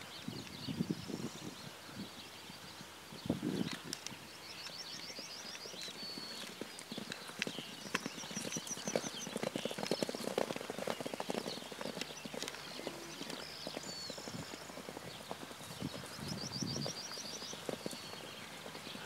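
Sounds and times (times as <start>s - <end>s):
hoofbeats galloping on grass: 3.4s - 19.0s.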